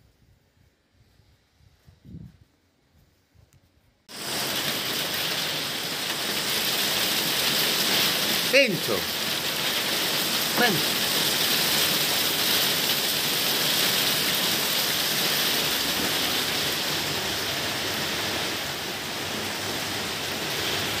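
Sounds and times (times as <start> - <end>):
heavy rain pouring: 4.1 - 21.0.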